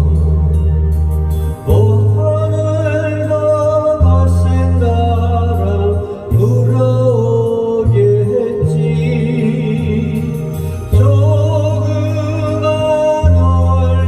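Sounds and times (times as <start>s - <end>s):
instrumental backing track: 0.0s - 14.0s
person singing with vibrato: 0.0s - 14.0s.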